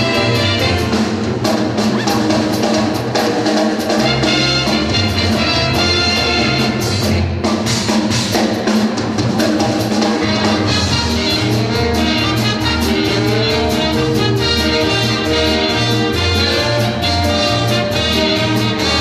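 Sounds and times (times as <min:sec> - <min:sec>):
brass band music: 0:00.0 - 0:19.0
drum kit beat: 0:00.0 - 0:19.0.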